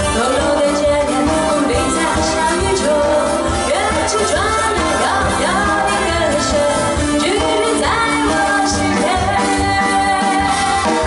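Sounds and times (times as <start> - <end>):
live band playing: 0.0 - 11.0
woman singing into a microphone: 0.0 - 11.0.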